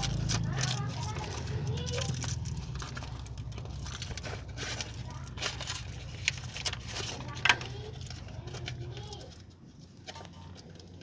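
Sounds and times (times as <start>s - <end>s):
foil crinkling and rustling: 0.0s - 11.0s.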